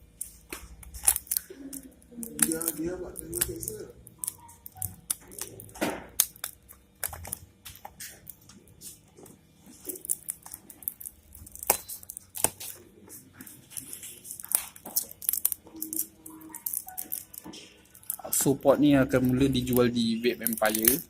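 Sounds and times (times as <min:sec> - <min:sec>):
packaging tearing and crinkling: 0:00.1 - 0:09.0, 0:09.7 - 0:12.8, 0:13.4 - 0:21.0.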